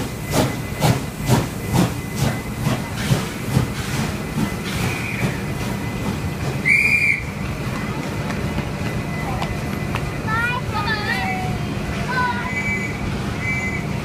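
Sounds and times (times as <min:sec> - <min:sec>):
steam locomotive exhaust beats: 0:00.0 - 0:14.0
train carriages rolling: 0:00.0 - 0:14.0.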